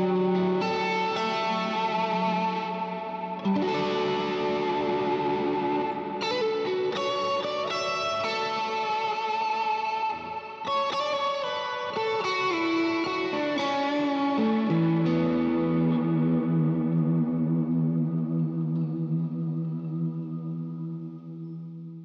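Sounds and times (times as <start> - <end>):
ambient electric guitar chords: 0.0 - 22.0.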